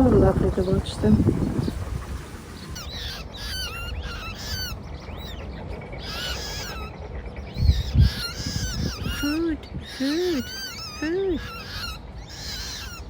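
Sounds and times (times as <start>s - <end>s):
waterbirds calling: 0.0s - 13.0s.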